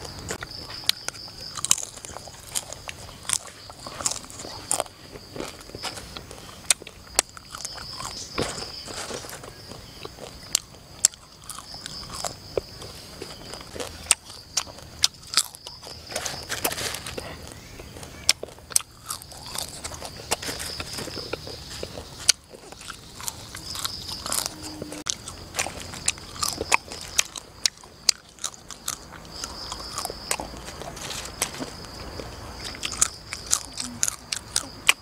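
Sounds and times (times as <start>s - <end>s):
person chewing crisp food: 0.0s - 35.0s.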